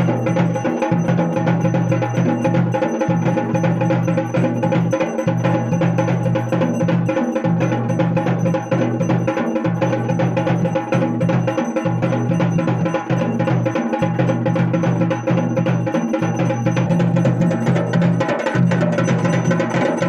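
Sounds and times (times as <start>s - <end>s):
fast drumming: 0.0s - 20.0s.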